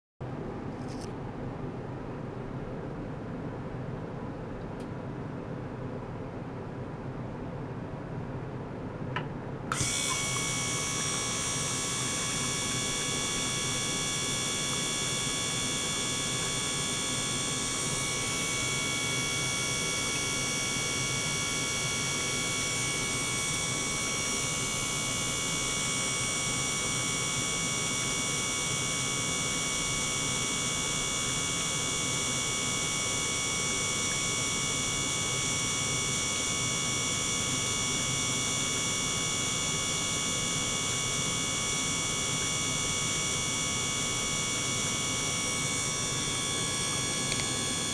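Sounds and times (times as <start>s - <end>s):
gear pump humming and whining: 9.2s - 47.9s.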